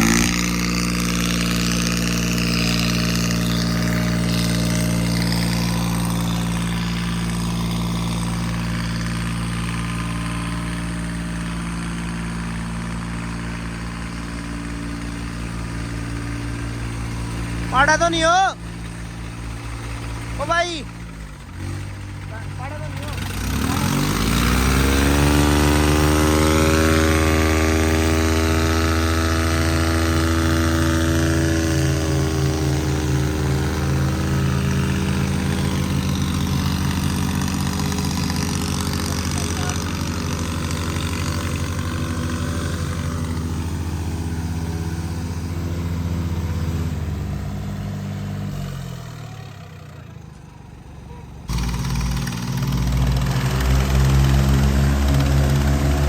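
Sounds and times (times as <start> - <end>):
tractor diesel engines revving: 0.0 - 56.0.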